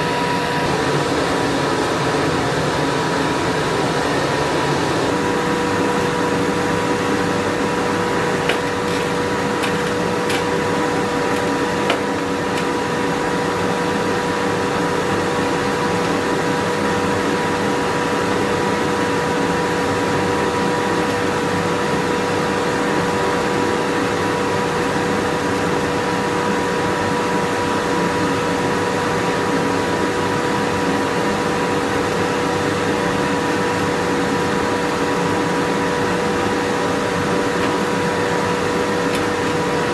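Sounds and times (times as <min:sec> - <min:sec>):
steady hum: 0:00.0 - 0:27.0, 0:31.3 - 0:39.9.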